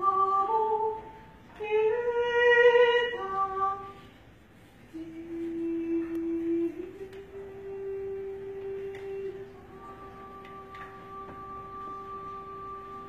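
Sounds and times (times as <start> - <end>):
woman singing unaccompanied: 0.0 - 4.1, 4.9 - 13.0.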